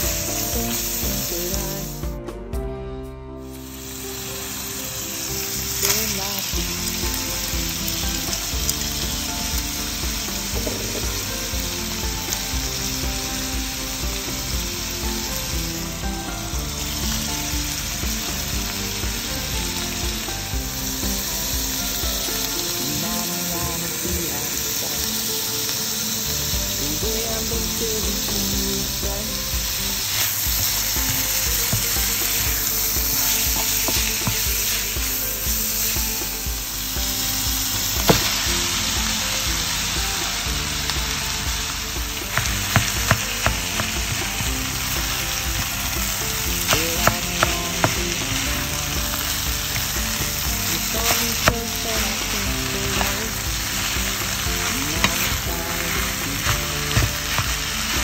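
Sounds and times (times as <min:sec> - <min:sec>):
food sizzling in a pan: 0:00.0 - 0:02.1, 0:03.5 - 0:58.0.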